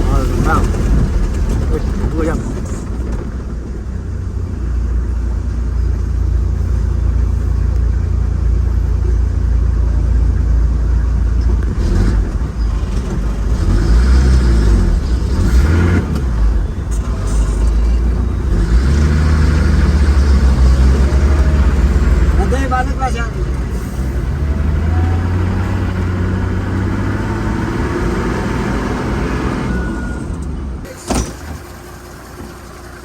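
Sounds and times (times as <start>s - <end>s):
road rumble: 0.0s - 33.0s
vehicle engine driving: 0.0s - 33.0s.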